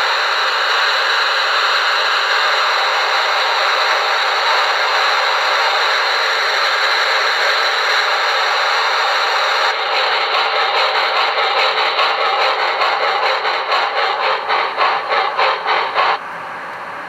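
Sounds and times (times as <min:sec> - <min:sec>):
model steam locomotive hiss: 0:00.0 - 0:16.2.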